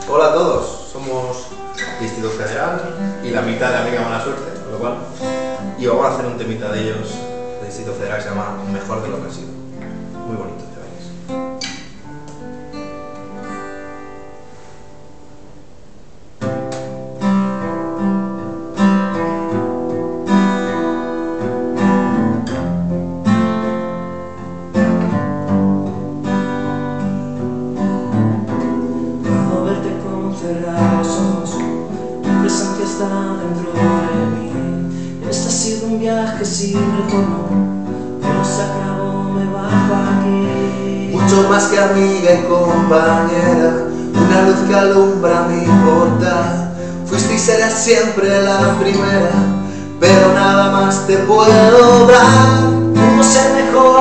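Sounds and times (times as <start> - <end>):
acoustic guitars playing: 0.0 - 54.0.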